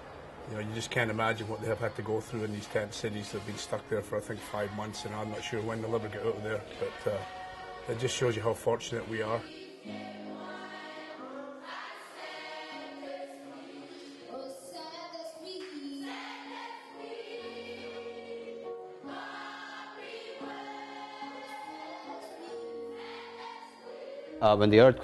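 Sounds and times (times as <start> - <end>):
choir singing held notes: 0.0 - 14.8, 15.6 - 25.0.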